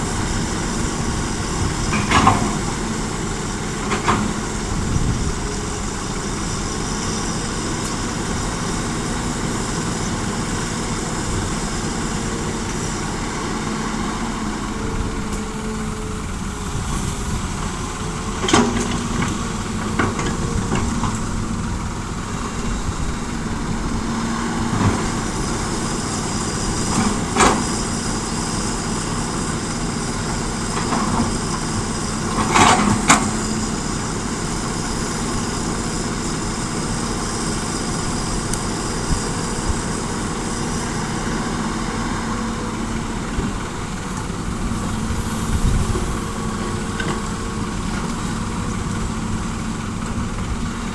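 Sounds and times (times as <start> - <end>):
heavy diesel engines running: 0.0 - 50.9.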